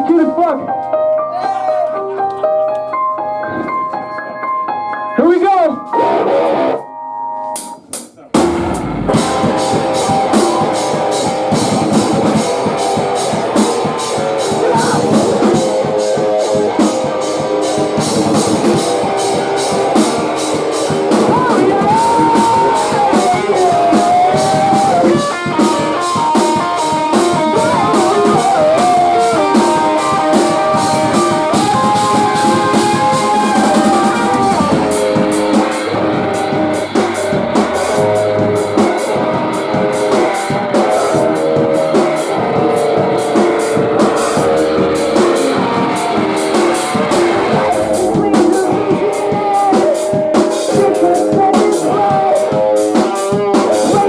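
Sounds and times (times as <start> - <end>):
melodic electric guitar: 0.0 - 7.7, 8.4 - 54.0
drum kit: 7.6 - 54.0.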